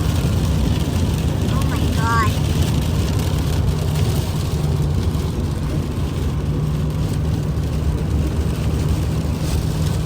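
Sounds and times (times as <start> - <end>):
car driving low rumble: 0.0 - 10.0.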